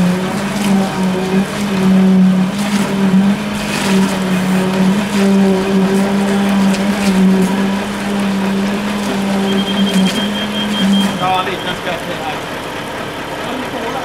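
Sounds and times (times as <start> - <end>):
concrete vibrator buzzing: 0.0 - 13.3.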